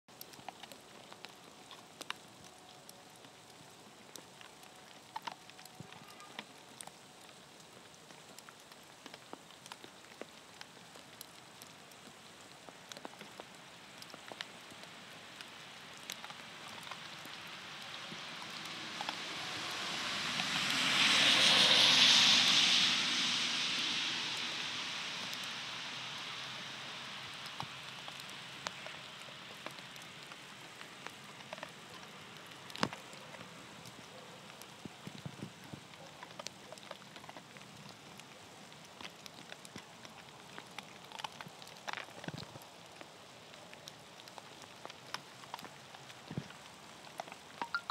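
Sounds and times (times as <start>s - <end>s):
tyres hissing on wet road: 6.2s - 47.7s.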